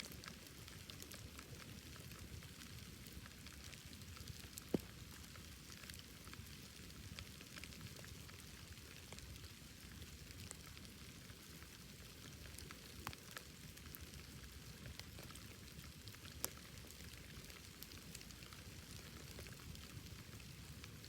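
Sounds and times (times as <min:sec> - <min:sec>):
wood bonfire crackling: 0:00.0 - 0:21.0.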